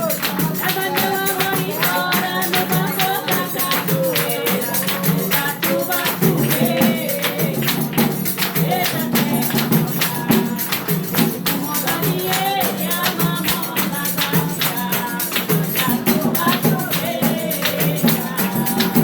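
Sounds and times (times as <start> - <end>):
jingling hand percussion: 0.0 - 19.0
person singing: 0.0 - 19.0.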